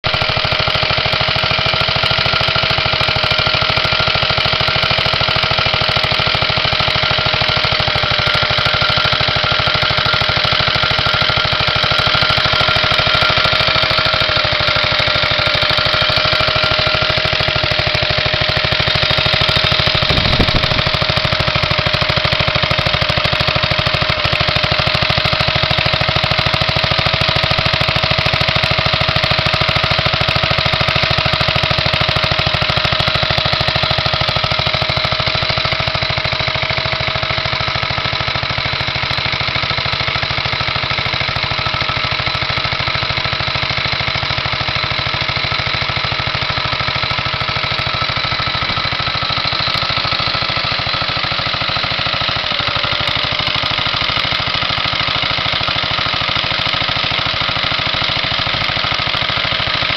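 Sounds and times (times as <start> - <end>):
single-cylinder engine running: 0.0 - 59.9.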